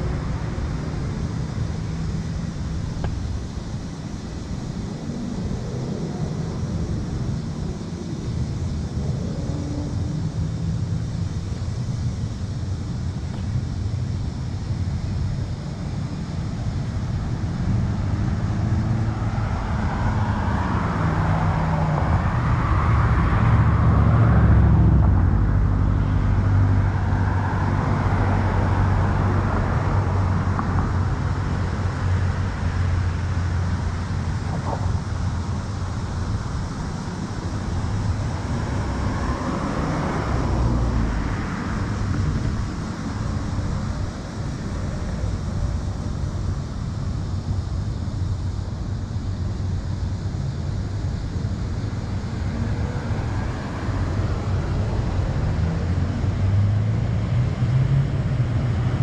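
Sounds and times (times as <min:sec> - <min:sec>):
cars passing: 0:00.0 - 0:59.0
low traffic rumble: 0:00.0 - 0:59.0.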